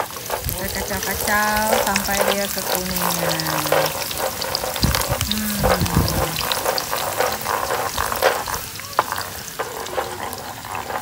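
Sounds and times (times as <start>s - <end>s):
garlic sizzling in hot oil: 0.0s - 11.0s
wooden spatula scraping a pan: 0.0s - 11.0s.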